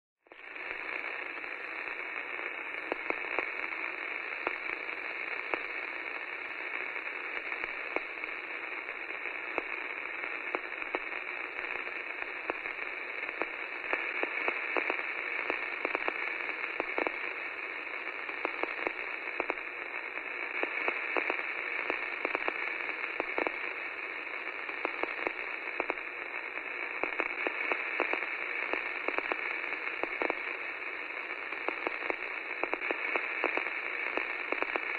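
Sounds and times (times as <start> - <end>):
static hiss: 0.2 - 34.9
small clicks and crackles: 6.8 - 34.9.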